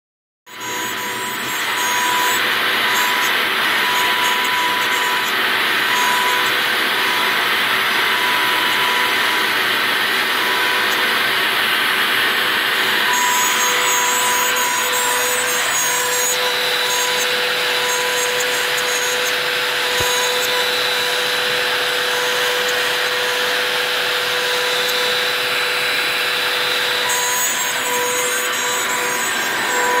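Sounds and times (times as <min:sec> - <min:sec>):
dust collection vacuum: 0:00.5 - 0:30.0
router spindle cutting wood: 0:00.5 - 0:30.0.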